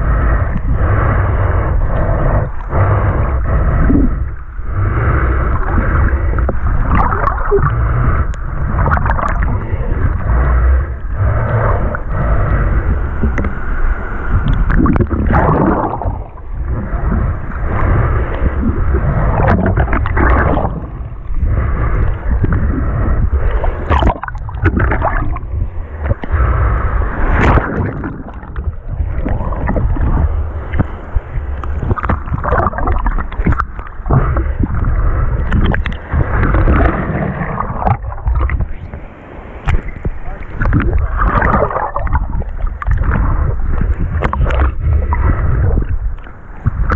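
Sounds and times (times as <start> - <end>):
heavy low rumble: 0.0 - 46.9
seawater sloshing in surf: 0.0 - 46.9.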